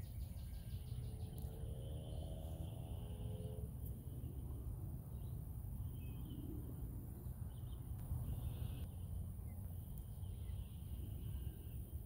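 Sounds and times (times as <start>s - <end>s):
bird chirping: 0.0s - 12.0s
high insect hum: 0.0s - 12.0s.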